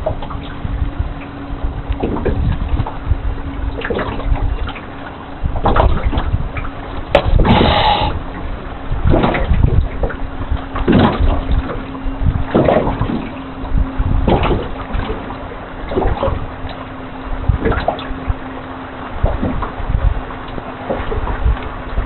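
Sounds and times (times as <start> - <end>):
river water lapping: 0.0 - 22.0.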